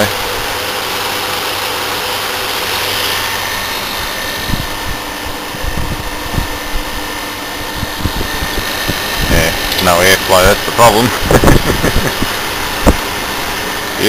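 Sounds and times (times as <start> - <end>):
air conditioner whirring: 0.0 - 14.0
thin high whine: 0.0 - 14.0.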